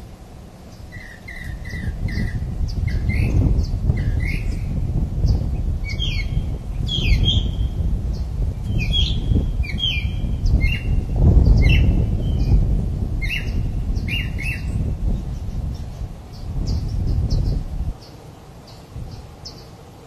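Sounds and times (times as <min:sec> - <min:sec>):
birds chirping and squawking: 0:00.7 - 0:12.6, 0:13.2 - 0:19.7.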